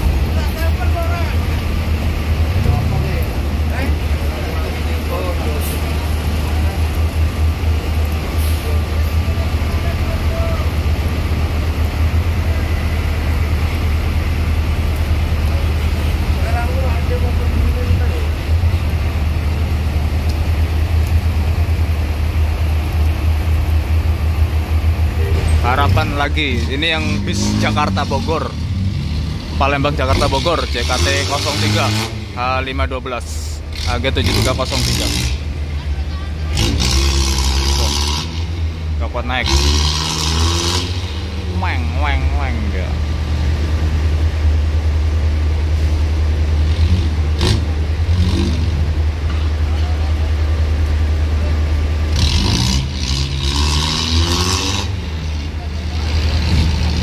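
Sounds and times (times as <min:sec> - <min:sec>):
diesel engine rumble: 0:00.0 - 0:57.0
heavy rain hiss: 0:00.0 - 0:57.0.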